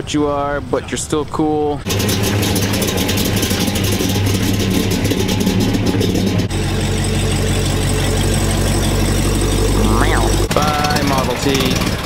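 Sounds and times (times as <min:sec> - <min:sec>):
old vehicle engine running: 0:01.9 - 0:12.0.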